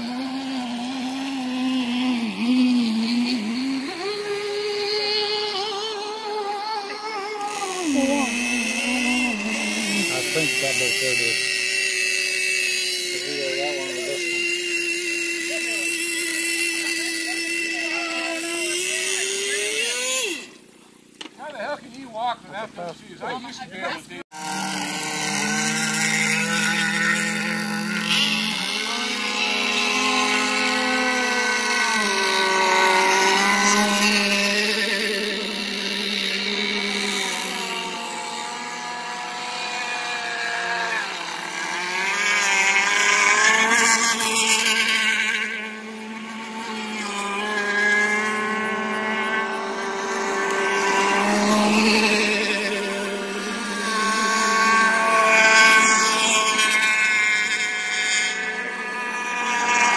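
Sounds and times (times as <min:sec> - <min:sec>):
radio-controlled boat engines: 0:00.0 - 0:59.9.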